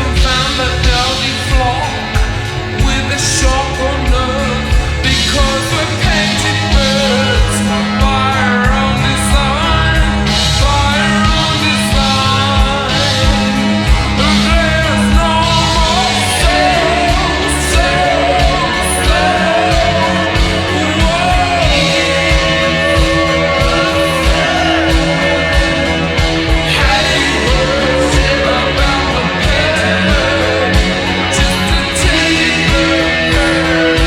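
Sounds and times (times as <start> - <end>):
slowed post-punk rock song: 0.0 - 34.0.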